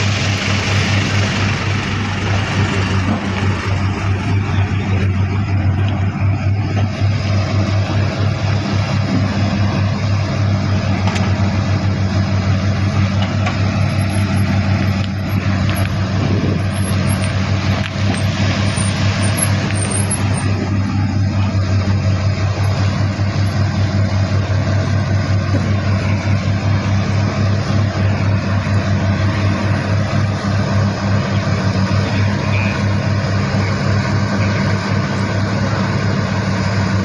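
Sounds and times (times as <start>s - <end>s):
heavy diesel machinery droning: 0.0s - 37.0s.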